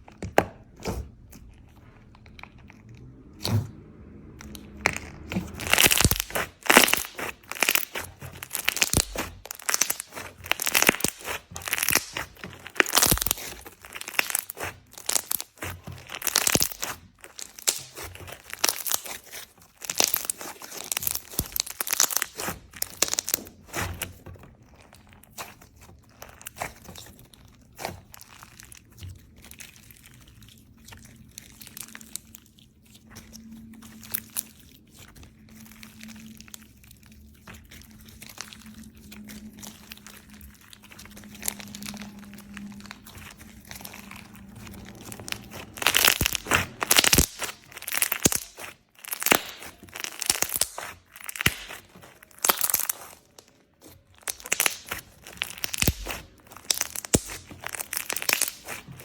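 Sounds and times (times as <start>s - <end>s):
slime squeezed by hand: 0.6s - 59.0s.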